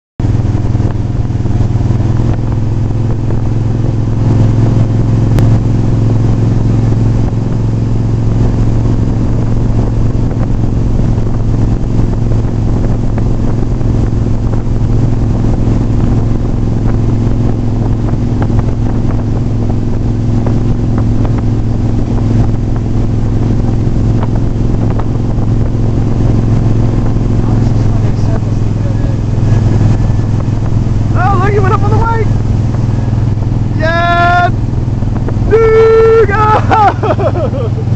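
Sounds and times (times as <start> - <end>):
boat engine droning: 0.2 - 37.9.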